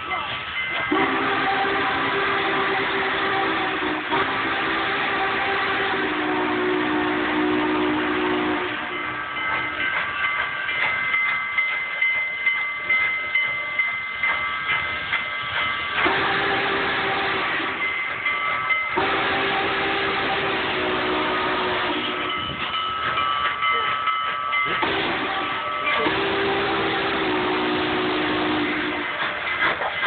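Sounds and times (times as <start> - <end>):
rhythmic locomotive beats: 0.0 - 30.0
steam locomotive chime whistle: 0.0 - 30.0.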